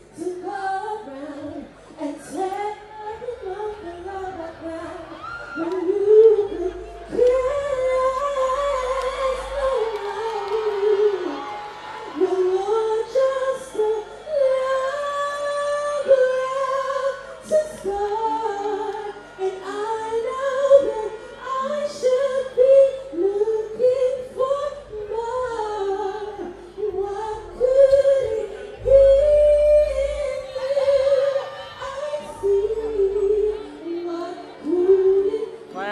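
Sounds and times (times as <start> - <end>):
woman singing into microphone: 0.0 - 35.9.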